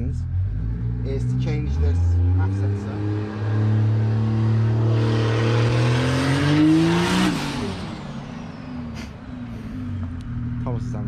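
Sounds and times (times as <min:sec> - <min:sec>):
diesel van engine accelerating: 0:00.0 - 0:11.0.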